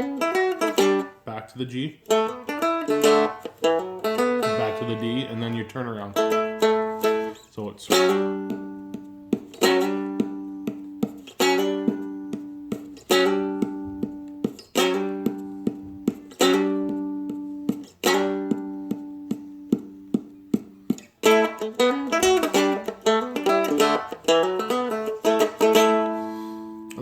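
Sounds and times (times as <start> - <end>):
stick dulcimer strummed: 0.0 - 27.0.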